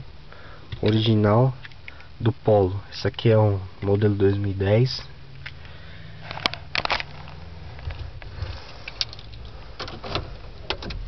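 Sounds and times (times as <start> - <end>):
low cabin hum: 0.0 - 11.0.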